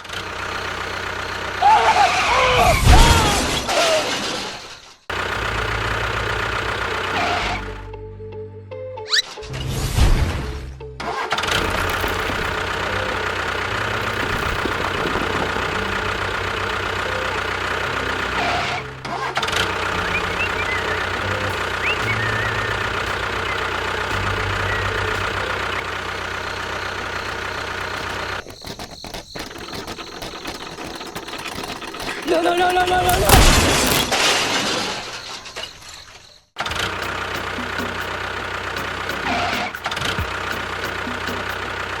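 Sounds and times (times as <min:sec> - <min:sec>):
small tractor engine running: 0:00.0 - 0:04.2, 0:04.8 - 0:08.2, 0:11.0 - 0:35.5, 0:36.6 - 0:42.0.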